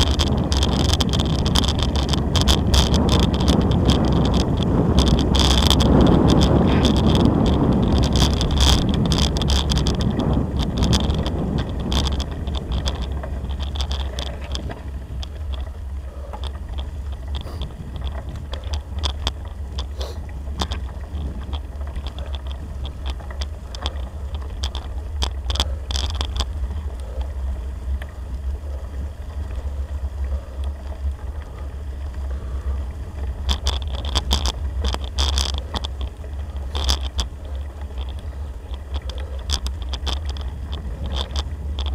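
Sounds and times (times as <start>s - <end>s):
bicycle rolling over gravel: 0.0s - 41.9s
rattling clicks: 0.0s - 41.9s
wind on microphone: 0.0s - 41.9s.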